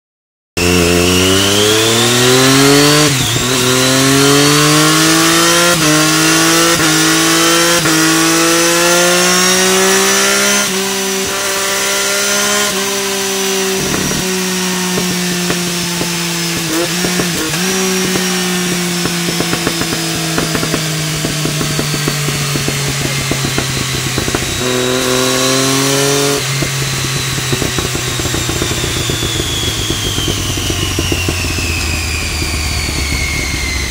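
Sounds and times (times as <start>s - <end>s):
exhaust crackling: 0.6s - 33.9s
motorcycle engine revving: 0.6s - 33.9s.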